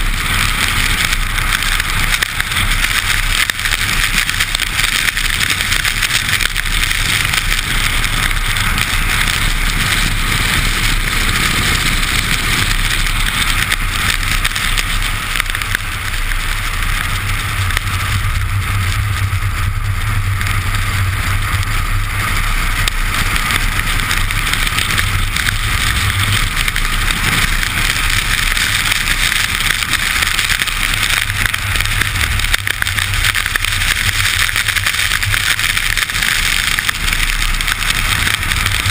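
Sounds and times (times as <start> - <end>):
car engine drone: 0.0 - 38.9.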